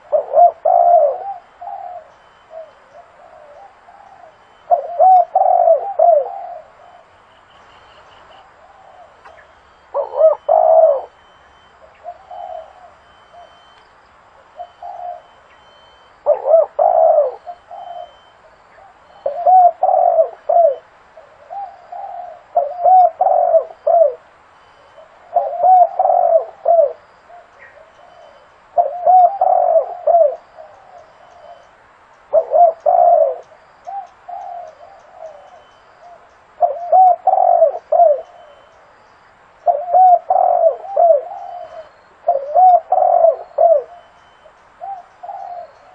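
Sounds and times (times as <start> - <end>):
dove cooing: 0.0 - 31.7, 32.3 - 38.9, 39.6 - 45.9.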